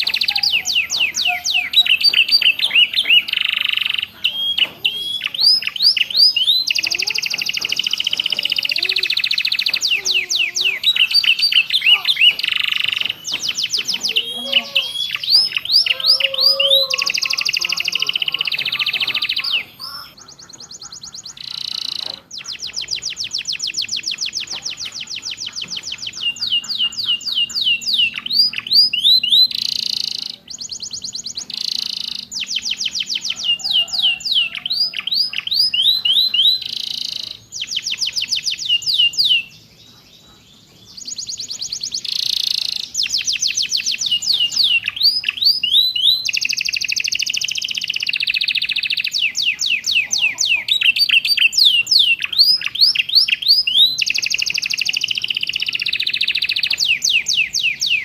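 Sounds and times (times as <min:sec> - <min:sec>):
canary singing trills and chirps: 0:00.0 - 0:58.0.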